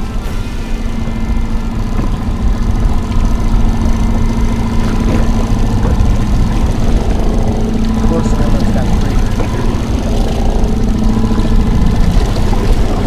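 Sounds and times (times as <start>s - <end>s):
boat motor humming: 0.0s - 13.0s
wind rumbling on microphone: 0.0s - 13.0s.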